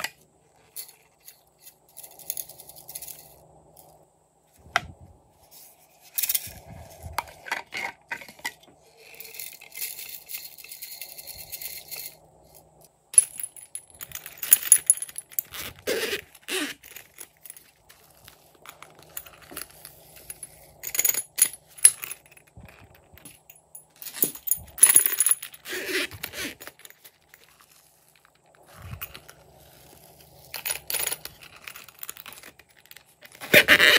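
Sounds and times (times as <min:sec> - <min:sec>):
metal ring and zipper jingling: 0:00.0 - 0:04.0, 0:05.6 - 0:33.9
sequins and plastic pieces rattling: 0:00.0 - 0:04.0, 0:05.6 - 0:33.9.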